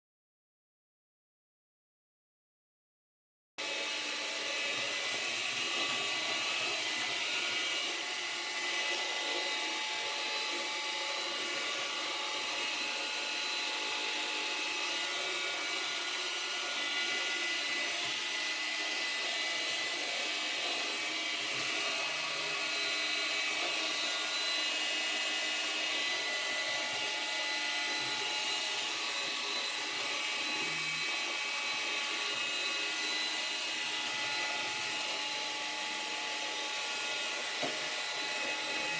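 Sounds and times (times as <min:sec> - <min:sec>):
robot vacuum motor whine: 0:03.6 - 0:38.9.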